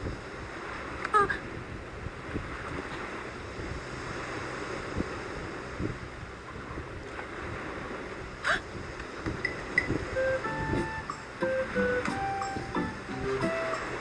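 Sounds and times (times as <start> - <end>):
waves: 0.0 - 14.0
wind: 0.0 - 14.0.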